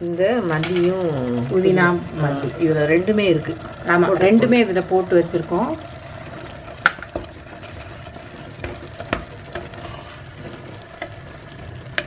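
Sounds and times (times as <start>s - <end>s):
sizzling in oil: 0.0s - 12.0s.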